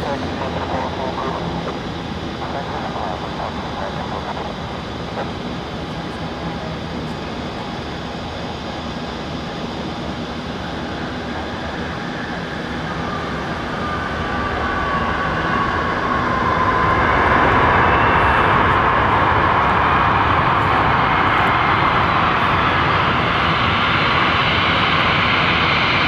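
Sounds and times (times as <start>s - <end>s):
high engine whine: 0.0s - 26.0s
jet engines rumbling: 0.0s - 26.0s.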